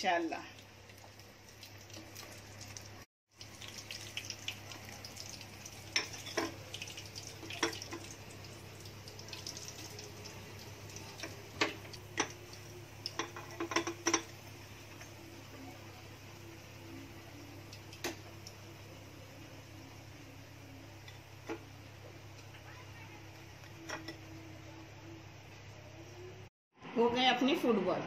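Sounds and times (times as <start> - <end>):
food sizzling in hot oil: 0.0 - 24.8.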